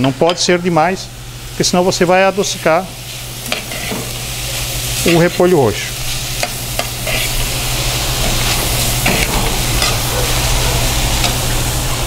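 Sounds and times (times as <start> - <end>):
cabbage sizzling in oil: 1.3 - 12.0.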